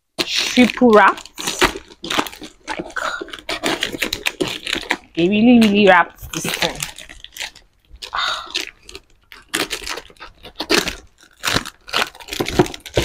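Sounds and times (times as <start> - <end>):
plastic wrapping tearing: 0.1 - 13.0
scissors cutting plastic: 0.2 - 13.0.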